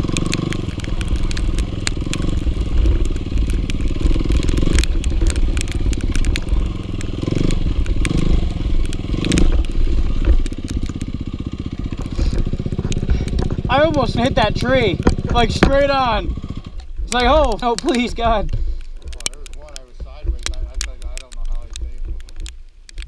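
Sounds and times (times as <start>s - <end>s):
dirt bike engine revving: 0.0s - 18.5s
sharp clicks and clatter: 0.0s - 23.0s.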